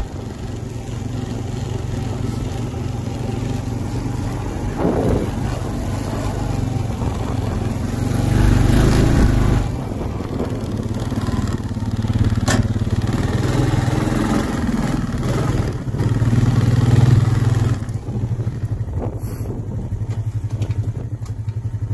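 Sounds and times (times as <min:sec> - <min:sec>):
atv engine running and idling: 0:00.0 - 0:21.9.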